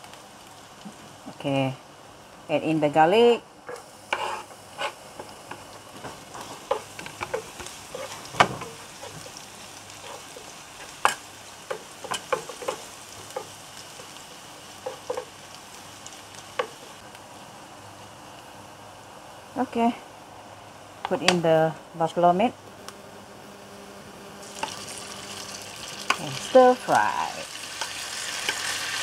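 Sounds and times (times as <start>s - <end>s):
food sizzling in hot oil: 0.0s - 21.2s, 22.8s - 29.0s.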